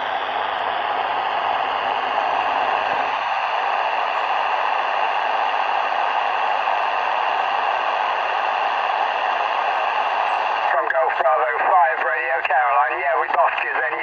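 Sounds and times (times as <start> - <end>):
shortwave radio static hiss: 0.0 - 14.0.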